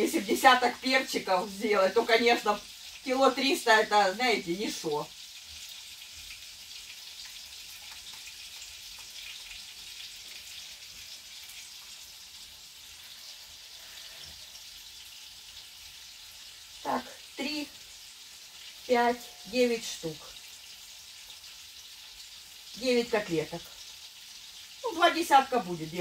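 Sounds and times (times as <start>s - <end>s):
cutlets sizzling in a pan: 0.0s - 26.0s.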